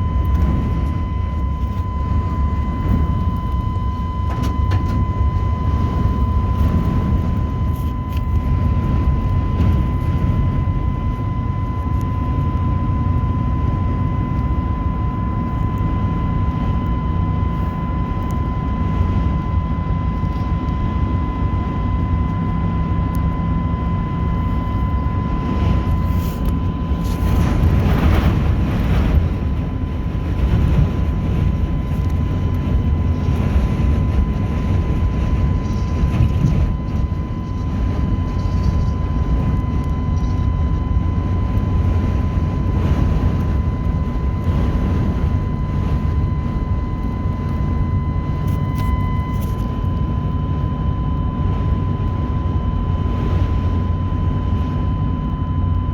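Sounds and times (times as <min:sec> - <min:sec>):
vehicle and road rumble: 0:00.0 - 0:55.9.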